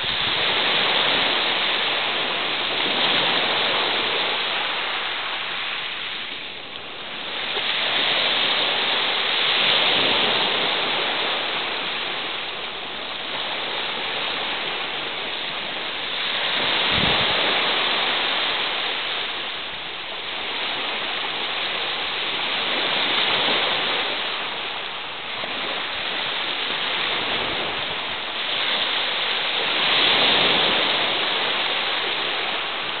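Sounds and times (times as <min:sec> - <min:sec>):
waves washing up shingle beach: 0:00.0 - 0:33.0.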